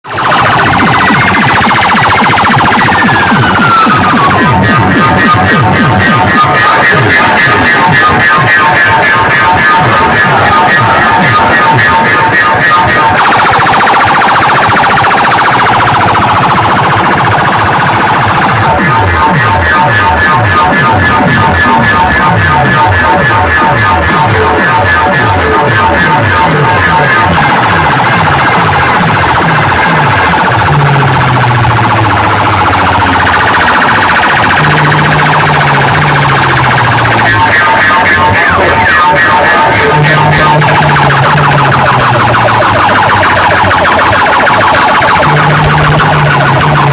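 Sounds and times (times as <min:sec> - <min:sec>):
loud music on sound system: 0:00.0 - 0:46.9
pulsing electronic siren effect: 0:00.0 - 0:46.9
stepping bass line: 0:00.0 - 0:46.9.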